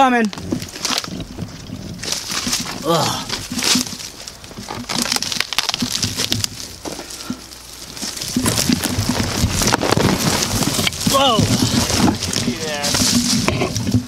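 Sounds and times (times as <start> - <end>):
branches brushing: 0.0 - 14.0
footsteps crunching through brush: 0.0 - 14.0.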